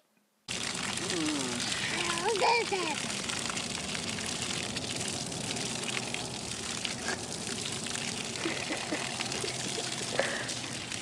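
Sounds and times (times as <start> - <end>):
hose water splashing on grass: 0.5 - 11.0.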